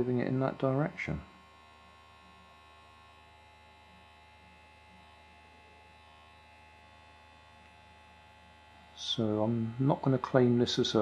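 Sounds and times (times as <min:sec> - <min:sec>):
toothbrush motor buzzing in foil tray: 0:01.0 - 0:11.0.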